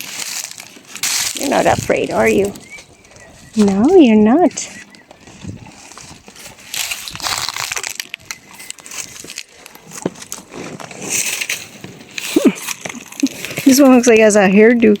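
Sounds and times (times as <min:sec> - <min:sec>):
dry corn stalks crunching: 0:00.0 - 0:15.0.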